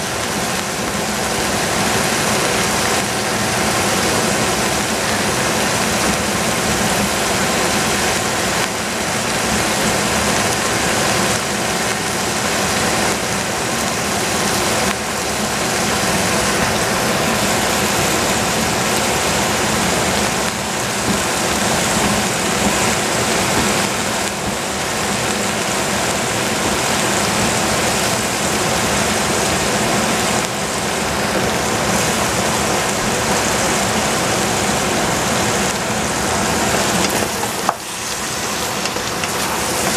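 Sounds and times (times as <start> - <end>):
pot of vegetables cooking: 0.0 - 39.9.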